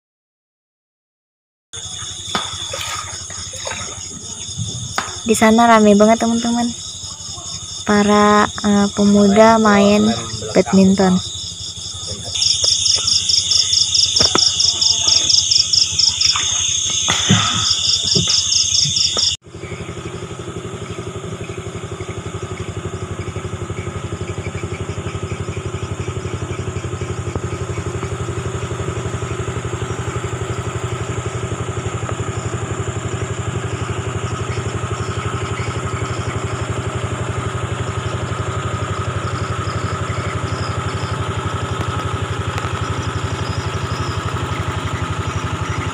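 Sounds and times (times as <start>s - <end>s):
chorus of night insects: 1.8s - 45.9s
small engine humming: 1.8s - 45.9s.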